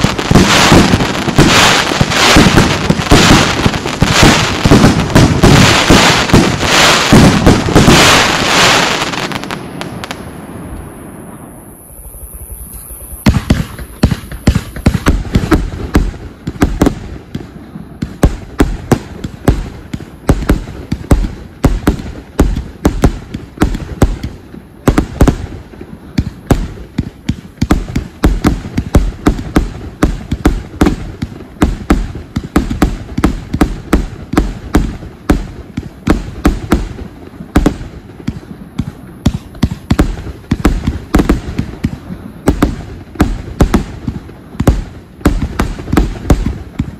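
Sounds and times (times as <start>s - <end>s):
fireworks bangs and thumps: 0.0s - 10.3s, 13.0s - 46.9s.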